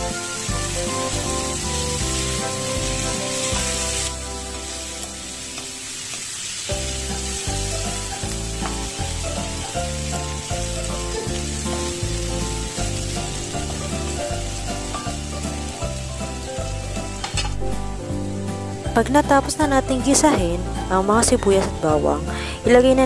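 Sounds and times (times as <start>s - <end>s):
background music with beat: 0.0s - 5.8s, 6.8s - 23.0s
vegetables sizzling in oil: 0.0s - 23.0s.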